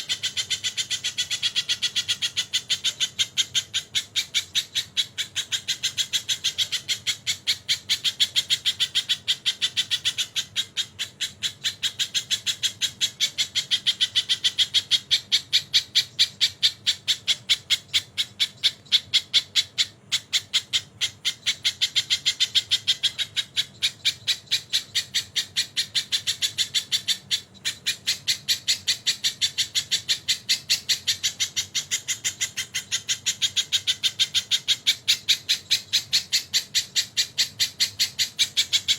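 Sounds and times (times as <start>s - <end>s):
songbird chattering harsh notes: 0.0s - 38.9s.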